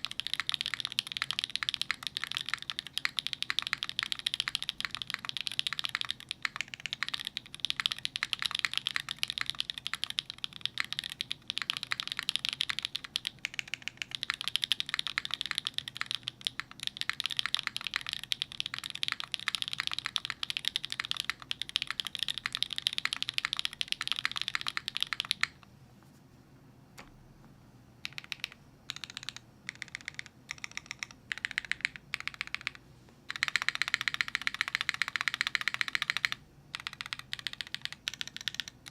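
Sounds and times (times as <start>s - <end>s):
mechanical keyboard typing: 0.0s - 25.6s, 28.0s - 38.9s.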